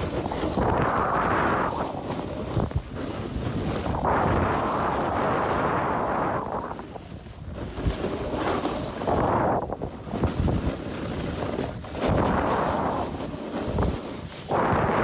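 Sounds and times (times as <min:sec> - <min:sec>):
snowboard carving on snow: 0:00.0 - 0:15.0
wind buffeting microphone: 0:00.0 - 0:15.0.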